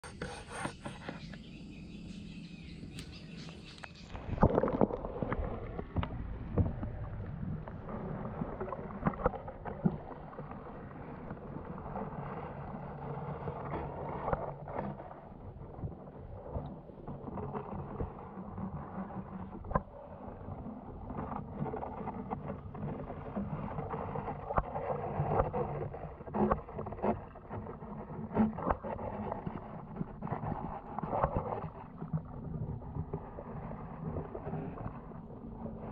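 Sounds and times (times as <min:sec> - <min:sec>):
muffled underwater noise: 0:00.0 - 0:35.9
pond ambience: 0:00.0 - 0:35.9
underwater clicks and knocks: 0:02.8 - 0:12.0, 0:13.6 - 0:35.9.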